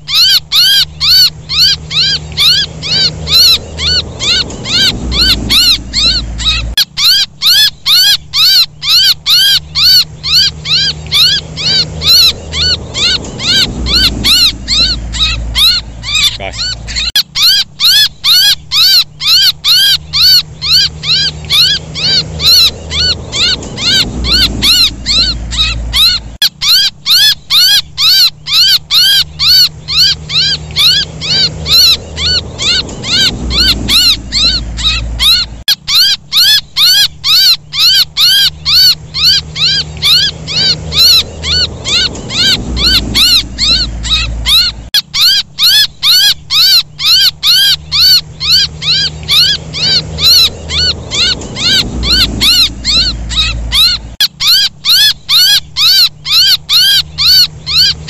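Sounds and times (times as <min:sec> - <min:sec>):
low rumble: 0:00.0 - 0:17.8, 0:18.6 - 0:26.4, 0:28.8 - 0:35.7, 0:37.6 - 0:45.0, 0:46.9 - 0:54.2
young bird distress chirps: 0:00.0 - 0:58.0.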